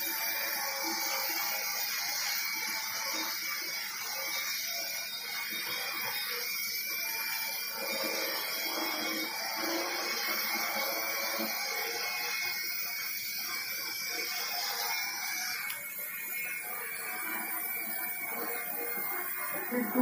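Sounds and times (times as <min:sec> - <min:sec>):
drone whirring: 0:00.0 - 0:20.0.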